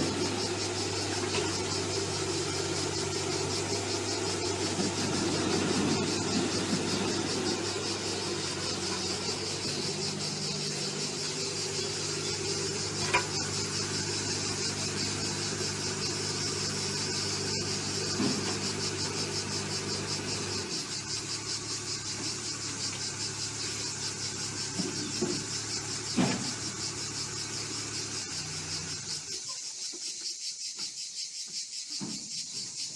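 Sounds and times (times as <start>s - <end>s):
high pulsing buzz: 0.0s - 29.2s
heavy machine engine running: 0.0s - 29.3s.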